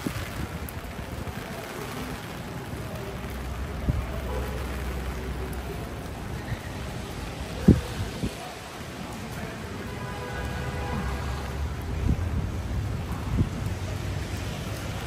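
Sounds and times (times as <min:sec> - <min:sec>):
city traffic rumble: 0:00.0 - 0:15.0
rain on an umbrella: 0:00.0 - 0:15.0.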